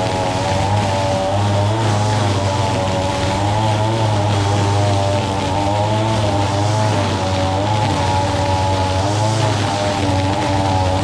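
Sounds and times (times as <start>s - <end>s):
string trimmer cutting grass: 0.0s - 11.0s.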